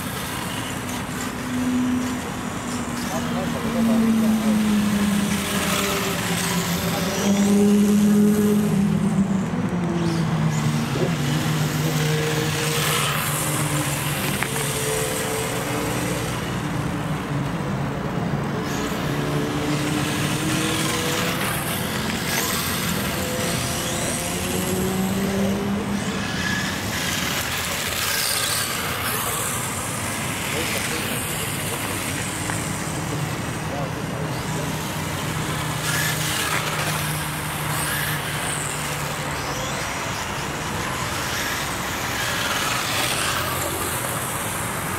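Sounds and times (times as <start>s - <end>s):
radio-controlled cars driving by: 0.0s - 44.9s.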